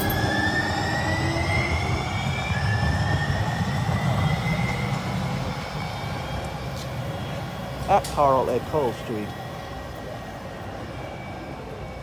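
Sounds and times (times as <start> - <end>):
wheels rumbling on rails: 0.0 - 12.0.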